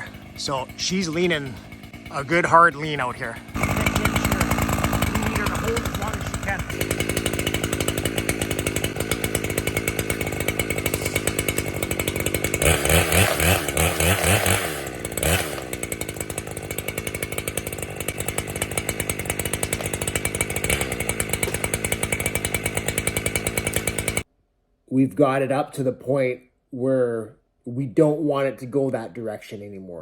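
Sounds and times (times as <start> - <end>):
chainsaw idling and revving: 0.0 - 24.3.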